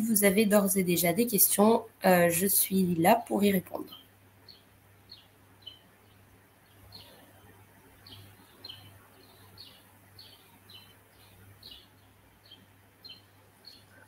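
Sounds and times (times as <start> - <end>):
bird chirping: 0.0 - 14.0
low steady hum: 0.0 - 14.0.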